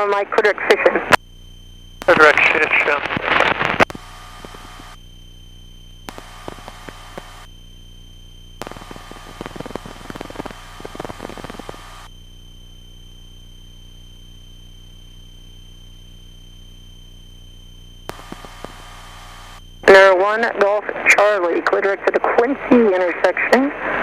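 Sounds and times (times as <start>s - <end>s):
radio static hiss and crackle: 0.0s - 24.0s
thin high whine: 0.4s - 24.0s
low hum: 1.1s - 23.4s.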